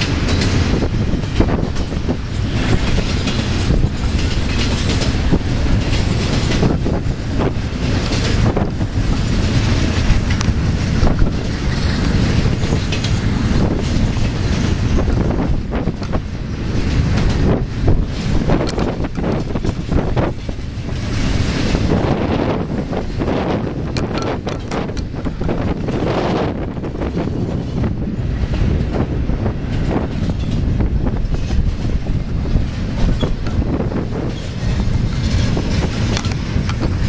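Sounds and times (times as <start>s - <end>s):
freight train rolling past: 0.0s - 37.0s
wheels clicking over rail joints: 0.0s - 37.0s.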